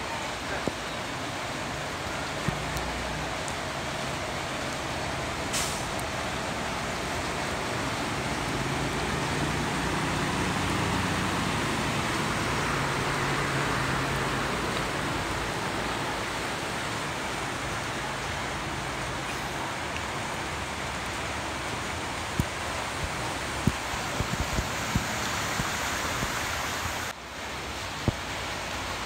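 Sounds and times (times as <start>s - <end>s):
rain hiss: 0.0s - 29.0s
wheels pushing through water: 0.0s - 29.0s.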